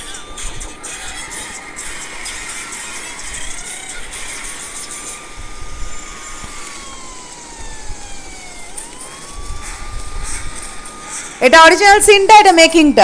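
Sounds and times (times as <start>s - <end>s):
car engine high whine: 0.0s - 11.9s.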